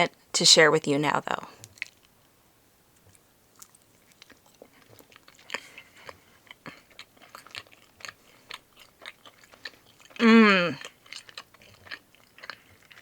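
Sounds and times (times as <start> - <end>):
close chewing with mouth clicks: 1.5 - 13.0.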